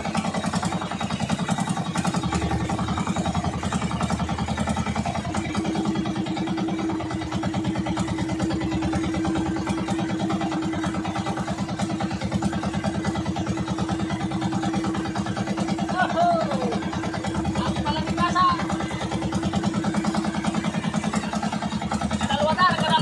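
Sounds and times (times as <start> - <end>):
boat engine throbbing: 0.0 - 23.0.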